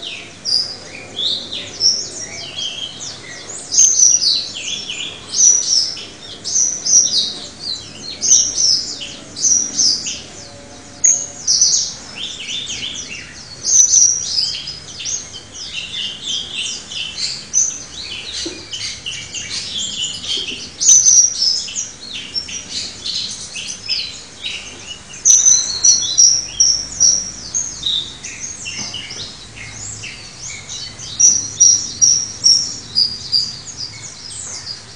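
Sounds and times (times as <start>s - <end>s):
songbird singing: 0.0s - 34.9s.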